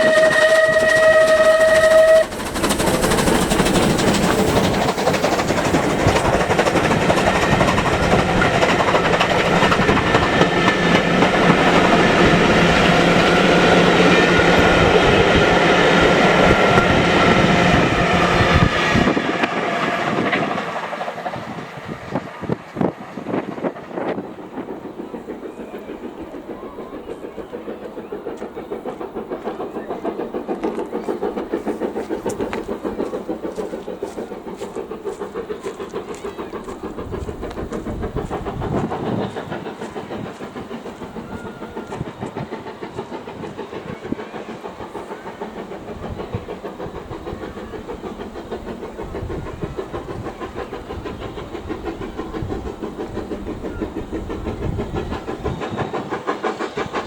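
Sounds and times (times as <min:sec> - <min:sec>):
steam engine running: 0:00.0 - 0:57.0.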